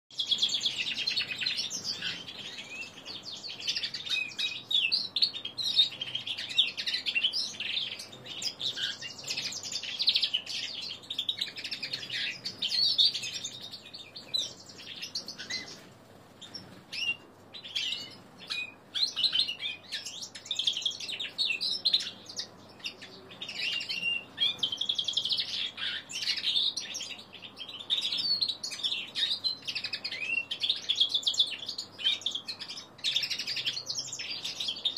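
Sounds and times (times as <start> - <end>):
bird twittering song: 0.1 - 34.9.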